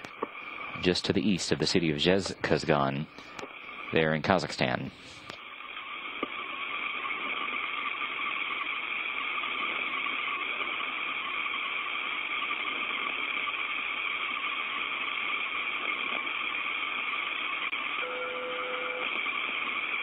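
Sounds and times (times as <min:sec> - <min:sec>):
radio channel hiss: 0:00.0 - 0:20.0.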